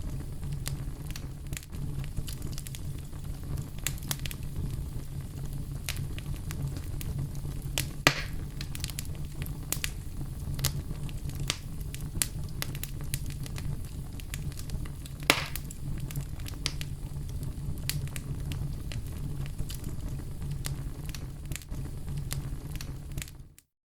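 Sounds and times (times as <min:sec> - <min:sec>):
wood fire crackling: 0:00.0 - 0:23.6.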